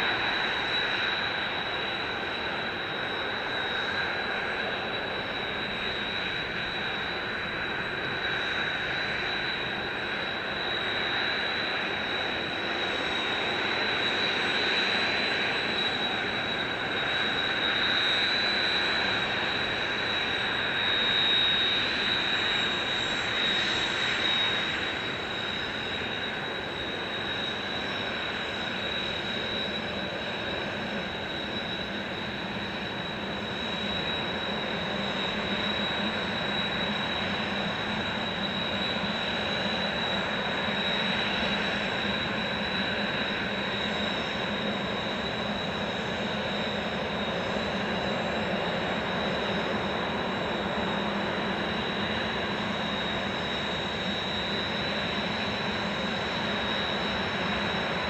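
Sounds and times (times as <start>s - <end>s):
high steady whistle: 0.0s - 58.0s
jet engine whine: 0.0s - 58.0s.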